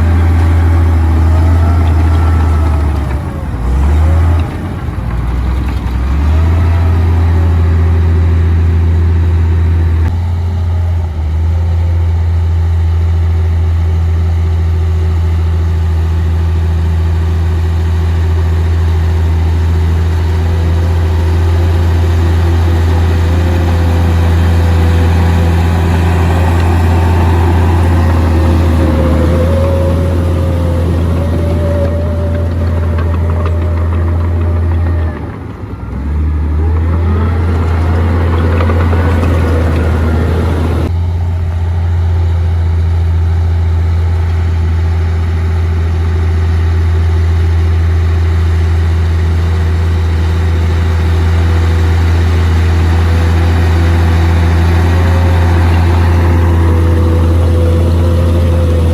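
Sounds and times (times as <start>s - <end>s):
bulldozer diesel engine drone: 0.0s - 58.9s.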